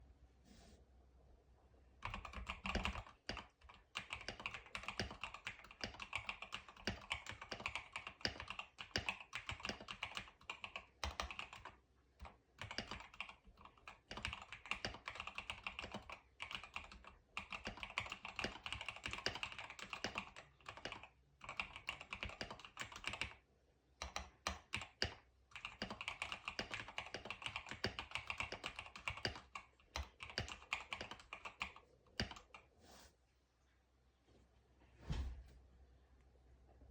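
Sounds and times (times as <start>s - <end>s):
typing on a mechanical keyboard: 2.0s - 23.4s, 24.0s - 32.7s.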